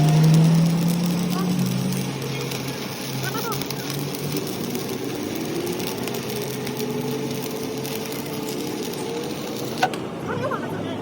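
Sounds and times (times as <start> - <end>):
power tool whining: 0.0 - 10.1.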